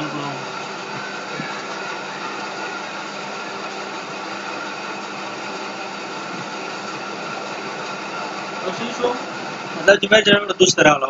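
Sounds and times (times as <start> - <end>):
steady motor hum and hiss: 0.0 - 11.0.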